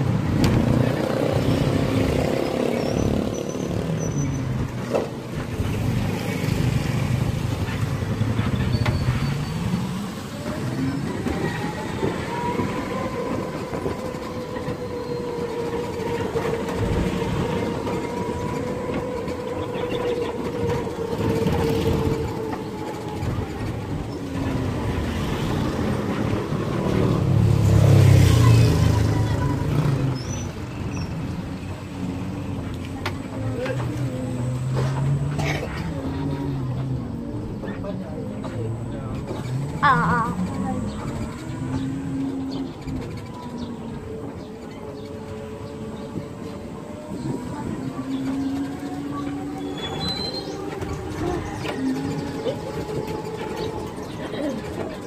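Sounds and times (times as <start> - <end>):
road and rattle noise: 0.0 - 55.0.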